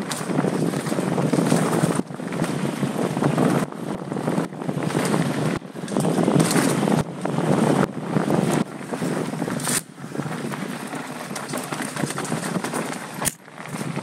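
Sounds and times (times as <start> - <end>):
bike tyre and rattle noise: 0.0 - 14.0
wind rushing over microphone: 0.0 - 14.0.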